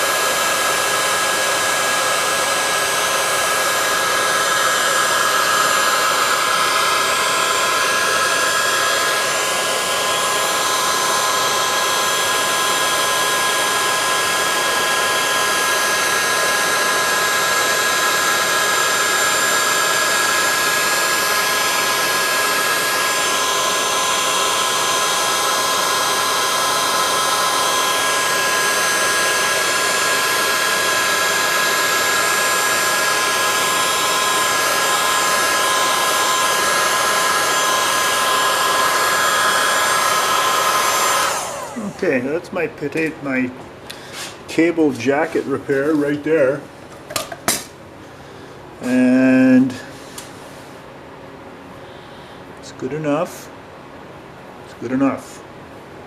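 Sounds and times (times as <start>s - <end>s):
heat gun blowing hot air: 0.0s - 43.2s, 43.9s - 46.4s.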